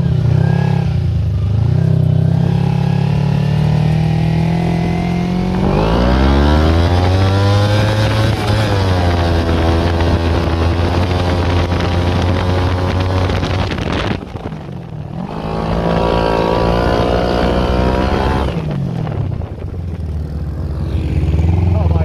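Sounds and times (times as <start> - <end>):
small petrol engine revving: 0.0 - 22.0.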